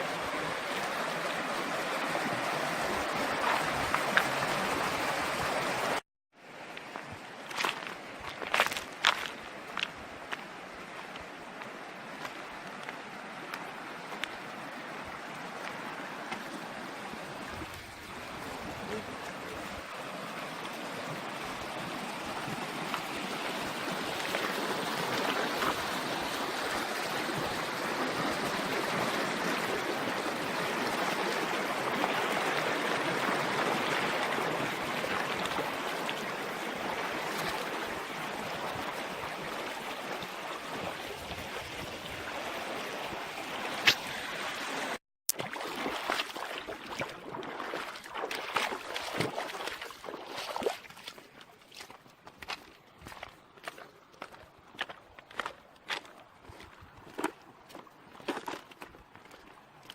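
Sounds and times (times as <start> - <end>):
stream water rushing: 0.0 - 53.3.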